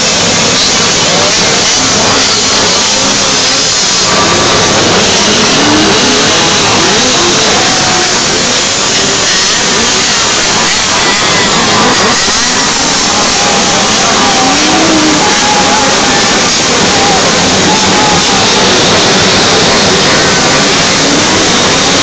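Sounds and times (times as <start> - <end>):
small two-stroke engines revving: 0.0 - 22.0.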